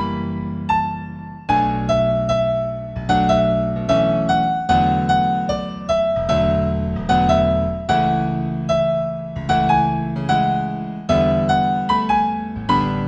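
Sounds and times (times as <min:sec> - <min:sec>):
gentle piano keyboard piece: 0:00.0 - 0:13.0.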